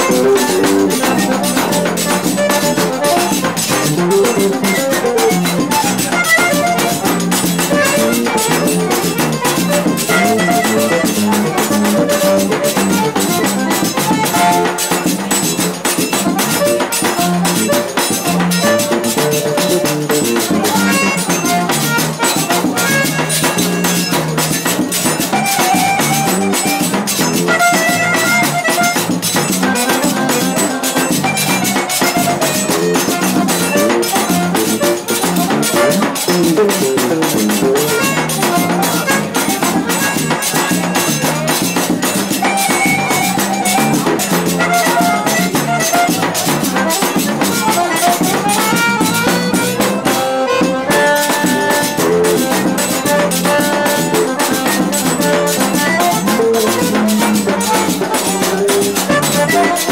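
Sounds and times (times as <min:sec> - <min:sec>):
button accordion melody: 0:00.0 - 0:59.9
fast percussion beat: 0:00.0 - 0:59.9.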